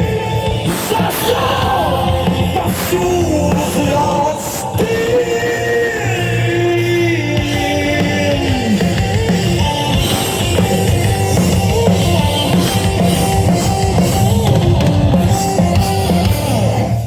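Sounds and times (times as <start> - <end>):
drum kit beat: 0.0 - 17.0
metal band playing: 0.0 - 17.0.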